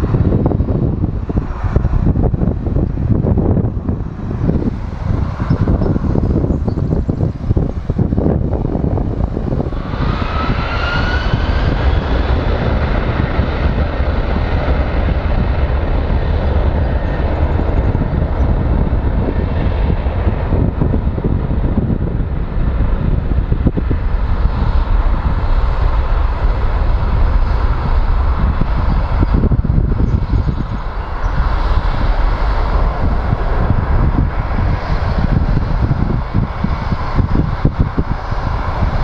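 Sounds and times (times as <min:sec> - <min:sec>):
jet engines spooling up: 0:00.0 - 0:39.0
loud steady jet rumble: 0:00.0 - 0:39.0
rising engine whine: 0:00.0 - 0:39.0.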